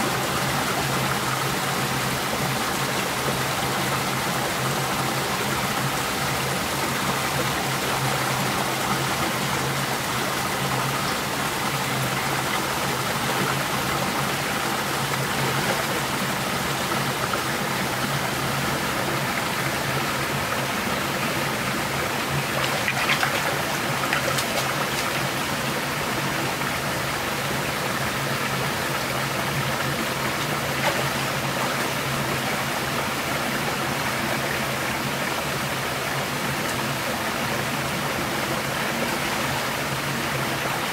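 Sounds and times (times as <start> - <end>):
stream rushing over stones: 0.0 - 40.9.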